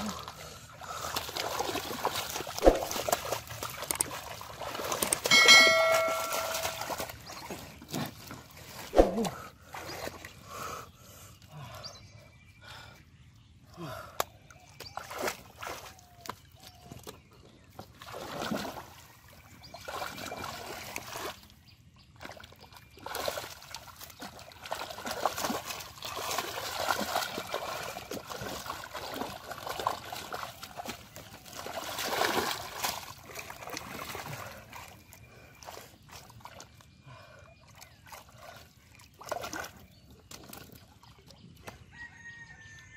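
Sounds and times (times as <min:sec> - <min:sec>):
muddy water sloshing and splashing: 0:00.0 - 0:11.8, 0:13.8 - 0:42.0.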